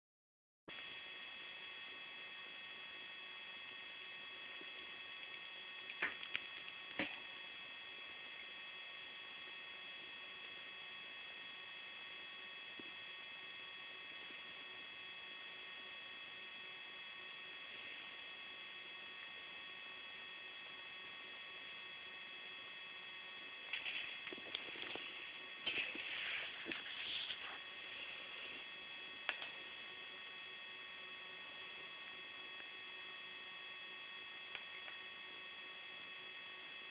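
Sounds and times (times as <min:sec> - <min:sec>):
faint hum and hiss: 0:00.7 - 0:36.9.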